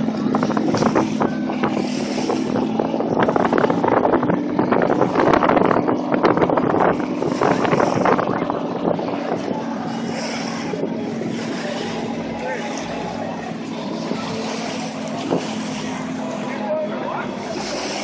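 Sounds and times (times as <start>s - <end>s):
wind gusting on microphone: 0.0s - 16.6s
jet boat engine drone: 0.0s - 18.0s.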